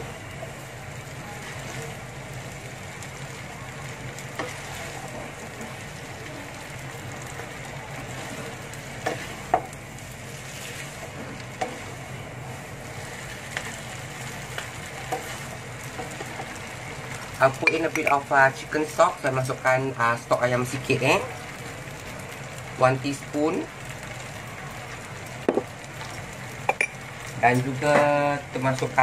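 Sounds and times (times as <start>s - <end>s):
noodles sizzling in a wok: 0.0s - 29.0s.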